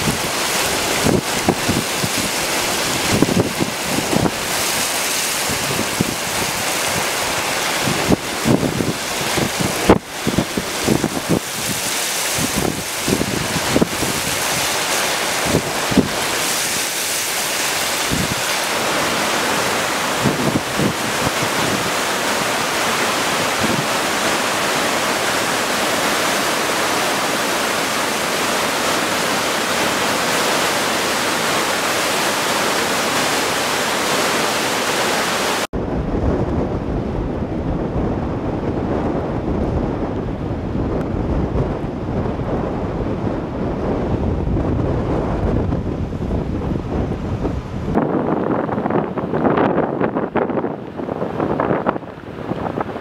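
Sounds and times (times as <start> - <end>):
rushing water: 0.0 - 53.0
storm wind on microphone: 0.0 - 53.0.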